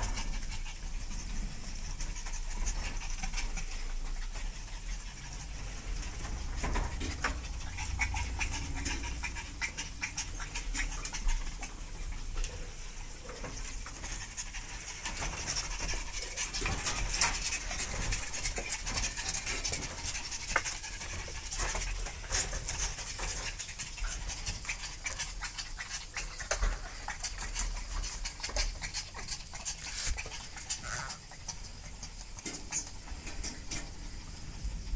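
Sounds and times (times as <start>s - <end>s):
puppies panting: 0.0s - 34.4s.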